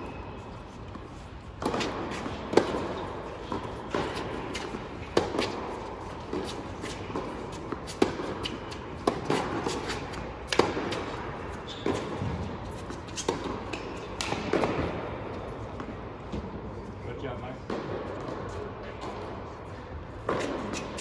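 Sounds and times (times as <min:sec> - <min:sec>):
rackets striking tennis ball: 0:00.0 - 0:16.6, 0:17.7 - 0:19.4, 0:20.1 - 0:21.0
tennis ball bouncing: 0:00.0 - 0:16.6, 0:20.2 - 0:21.0.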